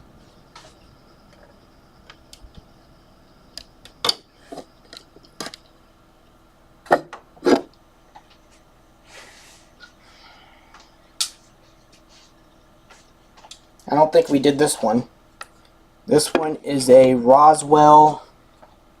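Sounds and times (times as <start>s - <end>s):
faint fan hum: 0.0s - 19.0s.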